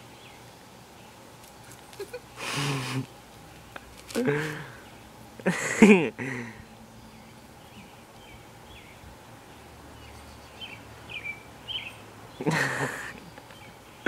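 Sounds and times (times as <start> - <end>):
small birds chirping faintly: 0.0 - 14.0.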